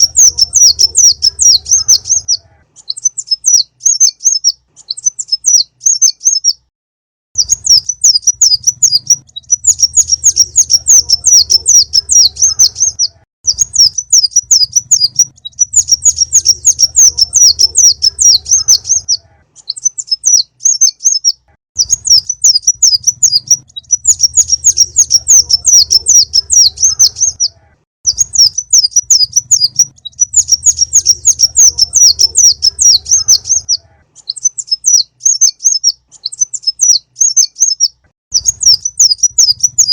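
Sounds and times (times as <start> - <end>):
recorded bird chirps and trills: 0.0 - 6.7, 7.4 - 39.9.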